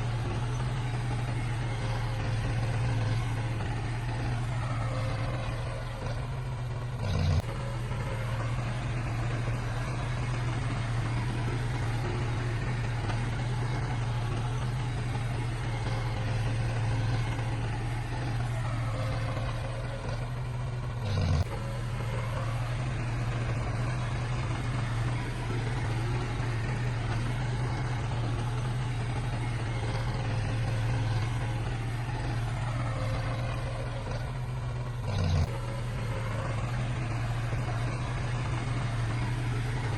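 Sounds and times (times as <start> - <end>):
engine burst with falling pitch: 0.0 - 39.9
heavy diesel engine running: 0.0 - 39.9.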